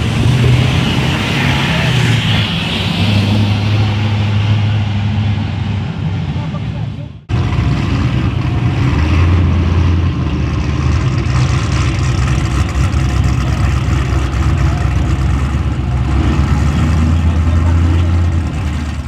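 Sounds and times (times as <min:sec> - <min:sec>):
engine idling loudly: 0:00.0 - 0:19.0.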